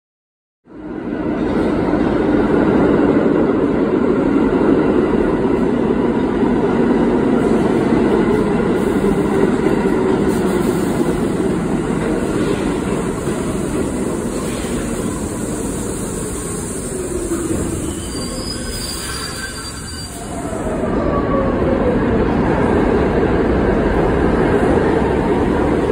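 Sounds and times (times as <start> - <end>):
subway train wheels rumbling: 0.7 - 25.9.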